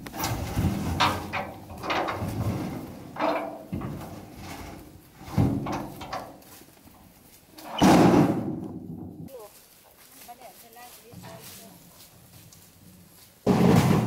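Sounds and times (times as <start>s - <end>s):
wooden planks clunking and scraping: 0.0s - 9.9s, 11.0s - 14.0s.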